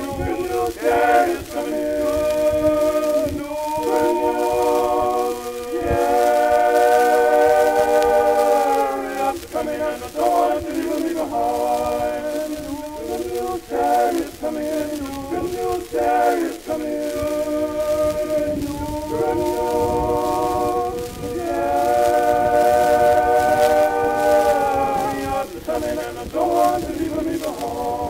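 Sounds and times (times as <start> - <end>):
choir singing unaccompanied: 0.0 - 28.0.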